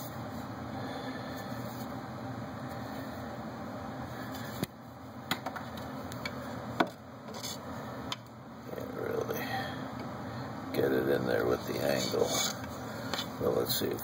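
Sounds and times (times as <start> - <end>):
fan-like hum: 0.0 - 14.0.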